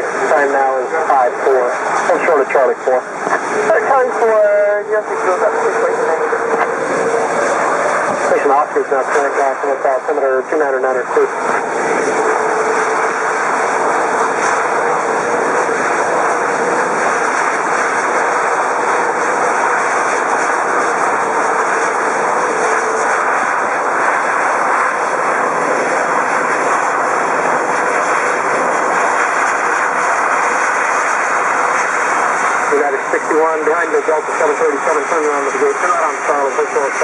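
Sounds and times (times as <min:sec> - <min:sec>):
jet engines running: 0:00.0 - 0:37.0
low steady whine: 0:00.0 - 0:37.0.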